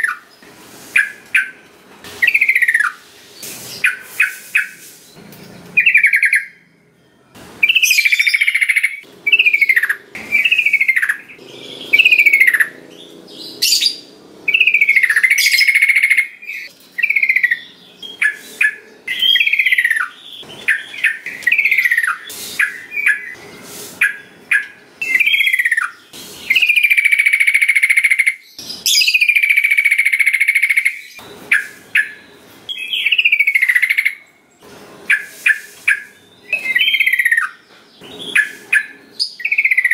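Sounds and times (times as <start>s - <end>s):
bird chirping calls: 0.0s - 34.4s, 35.0s - 39.9s.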